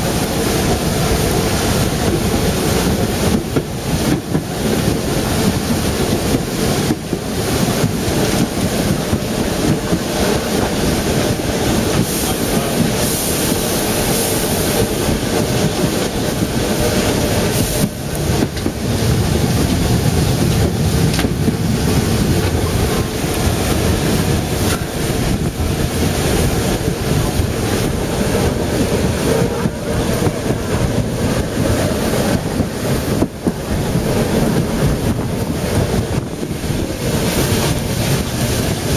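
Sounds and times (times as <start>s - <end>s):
steam train running: 0.0s - 38.9s
wind buffeting microphone: 0.0s - 38.9s.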